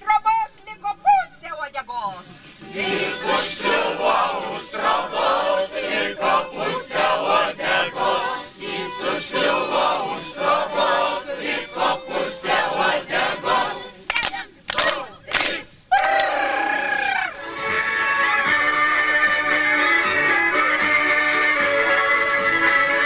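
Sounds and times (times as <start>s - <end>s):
group singing folk song: 2.2s - 16.5s, 17.3s - 23.0s.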